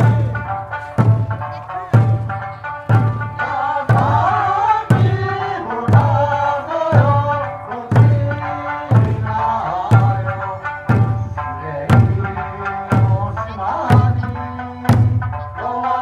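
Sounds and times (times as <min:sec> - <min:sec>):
large barrel drums struck: 0:00.0 - 0:14.3
person singing: 0:00.0 - 0:16.0.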